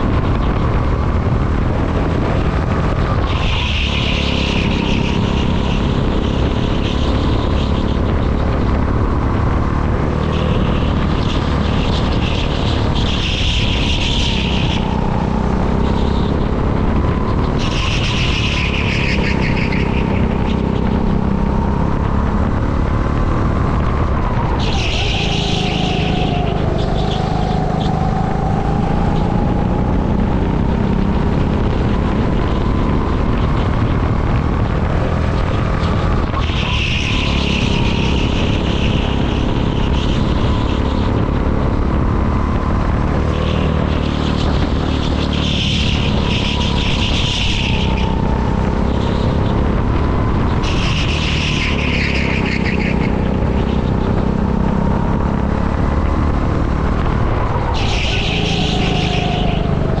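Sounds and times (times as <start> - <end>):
go-kart engine racing: 0.0 - 60.0.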